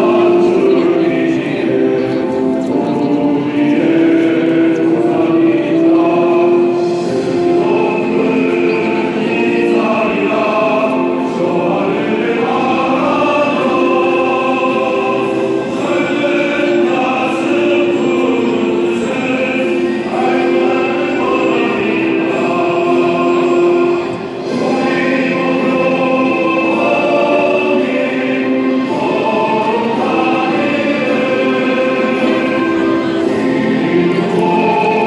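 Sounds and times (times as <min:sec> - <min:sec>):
group singing together: 0:00.0 - 0:35.0.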